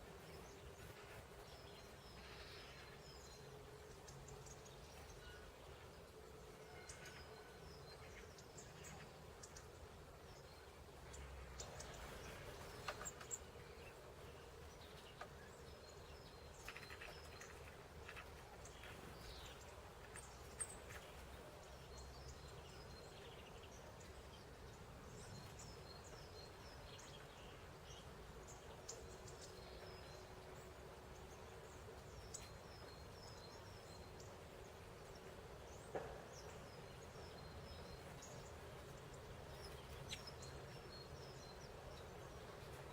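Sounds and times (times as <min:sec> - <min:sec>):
low steady hum: 0:00.0 - 0:42.9
small birds chirping: 0:00.0 - 0:42.9.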